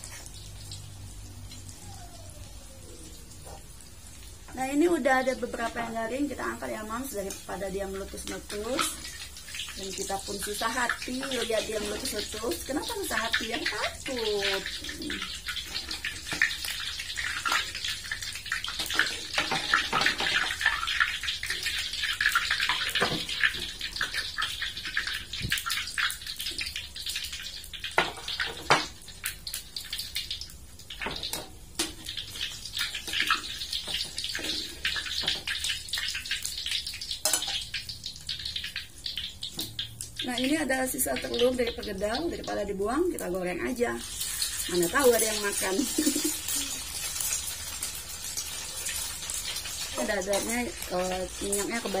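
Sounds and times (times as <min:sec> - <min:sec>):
hot oil sizzling and crackling: 0:00.0 - 0:52.0.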